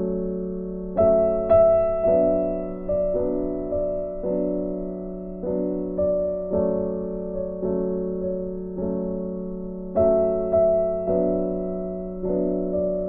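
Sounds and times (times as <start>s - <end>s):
soft piano melody: 0.0s - 13.0s.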